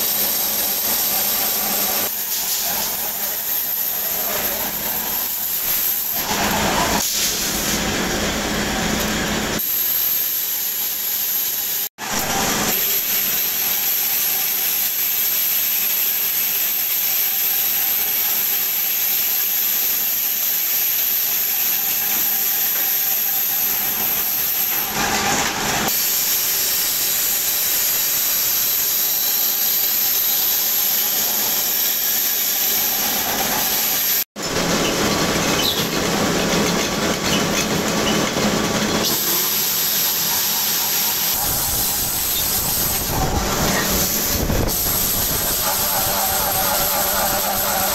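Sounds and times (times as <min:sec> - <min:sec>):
machinery hissing and whining: 0:00.0 - 0:47.9.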